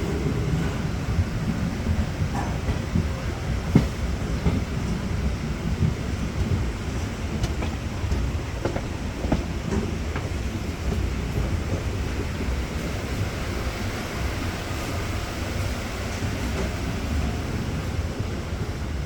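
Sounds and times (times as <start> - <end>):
train rumbling along track: 0.0 - 19.0.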